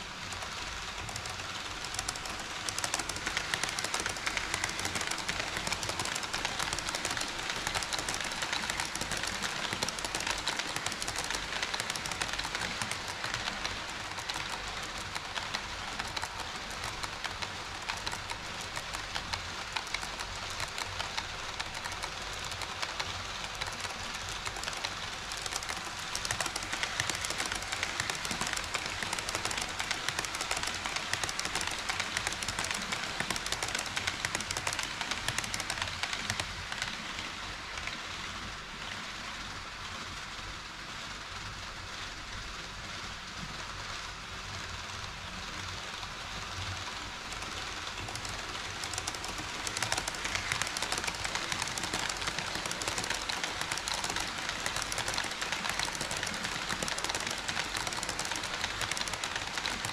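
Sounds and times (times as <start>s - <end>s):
model train wheels rattling: 0.0s - 39.2s, 44.9s - 59.9s.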